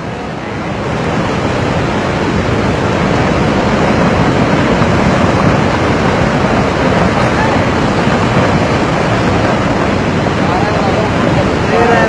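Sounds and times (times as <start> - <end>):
muddy water torrent rushing: 0.0 - 12.0.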